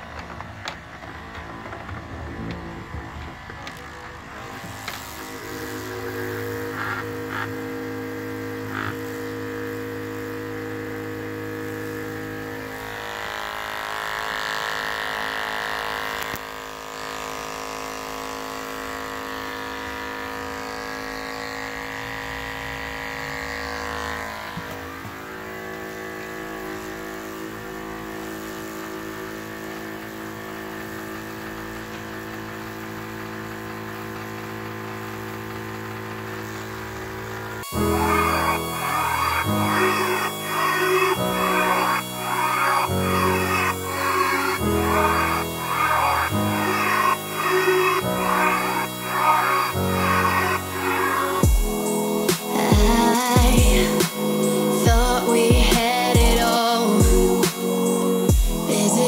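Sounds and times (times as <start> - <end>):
electric pump running: 0.0 - 59.0.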